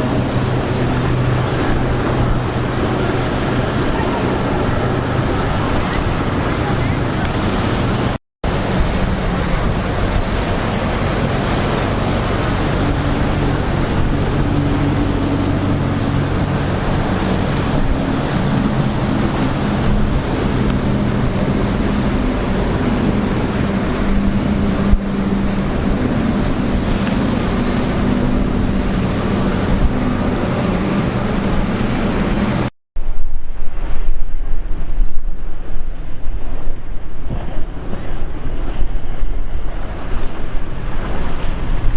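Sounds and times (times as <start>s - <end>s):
boat engines running: 0.0s - 32.7s, 33.3s - 41.9s
surf: 0.0s - 41.9s
wind buffeting microphone: 0.0s - 41.9s.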